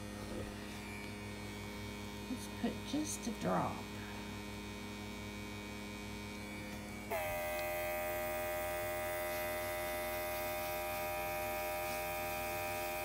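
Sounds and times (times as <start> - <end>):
small electric motor humming: 0.0 - 13.0.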